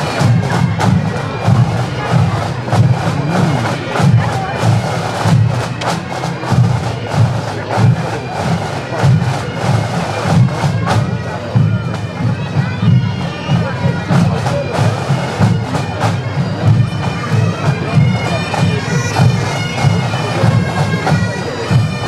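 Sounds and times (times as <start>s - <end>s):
bagpipes with drones: 0.0s - 22.0s
marching drums: 0.0s - 22.0s.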